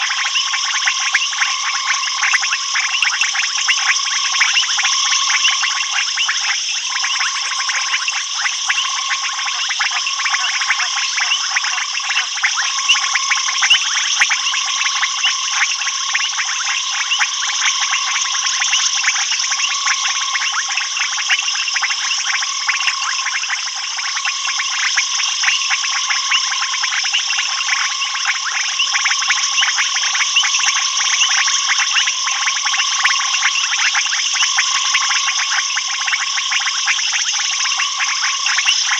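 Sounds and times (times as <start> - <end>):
low pulsing frog call: 0.0 - 38.9
rapid insect clicking: 0.0 - 38.9.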